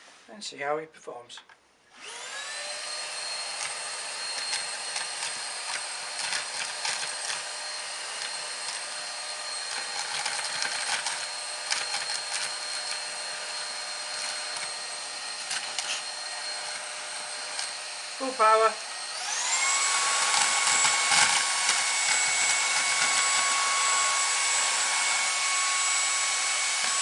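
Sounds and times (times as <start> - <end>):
vacuum cleaner motor whine: 1.9 - 27.0.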